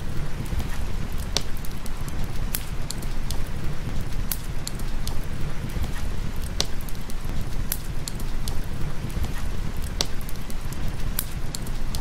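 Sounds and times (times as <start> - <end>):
steady rain: 0.0 - 12.0
wood fire crackling: 0.0 - 12.0.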